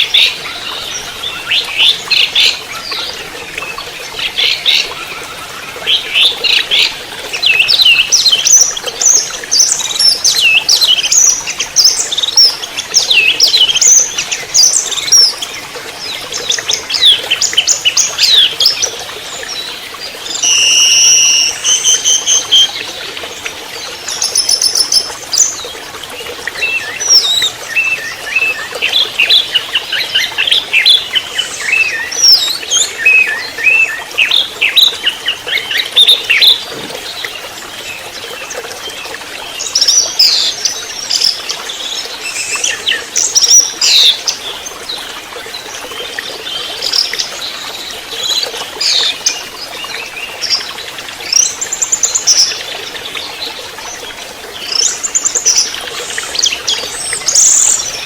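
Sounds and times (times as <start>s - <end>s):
thrush twittering song: 0.0s - 58.0s.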